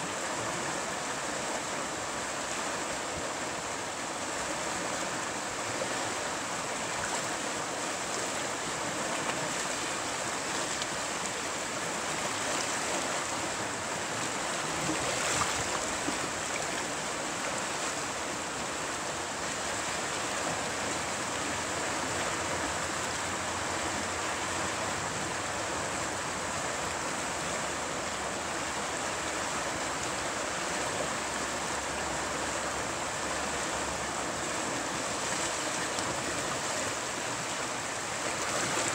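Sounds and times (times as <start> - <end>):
river water rushing over rapid: 0.0 - 38.9.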